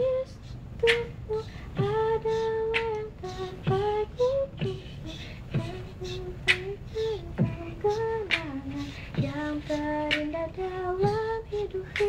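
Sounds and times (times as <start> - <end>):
beatbox percussion: 0.0 - 12.0
woman humming a slow melody: 0.0 - 12.0.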